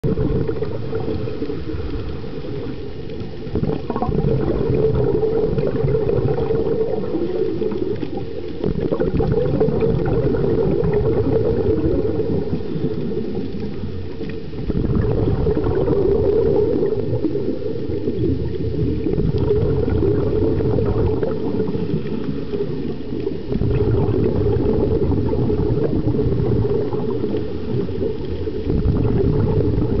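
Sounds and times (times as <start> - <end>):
low water rumble: 0.0 - 30.0
underwater exhaled air bubbling: 0.0 - 30.0.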